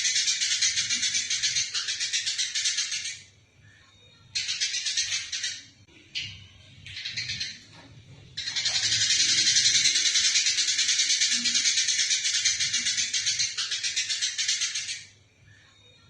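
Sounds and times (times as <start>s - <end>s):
sparrows chattering shrilly: 0.0s - 3.3s, 4.4s - 7.8s, 8.4s - 15.1s.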